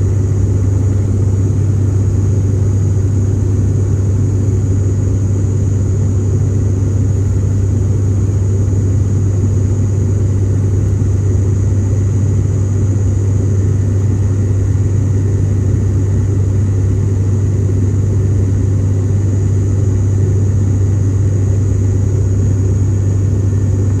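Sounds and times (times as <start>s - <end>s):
deep propeller hum: 0.0s - 24.0s.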